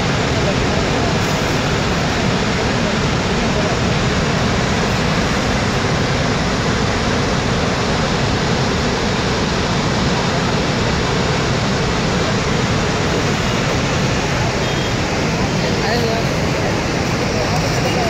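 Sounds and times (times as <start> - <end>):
water rushing over dam spillway: 0.0 - 18.0.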